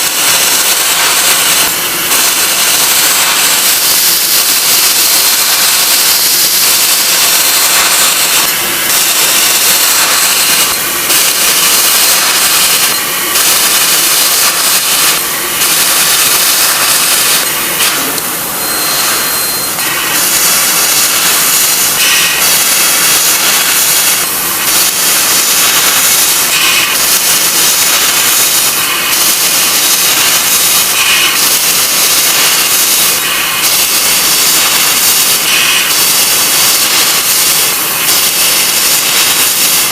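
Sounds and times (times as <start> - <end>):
laser cutter gas jet hiss: 0.0 - 39.9.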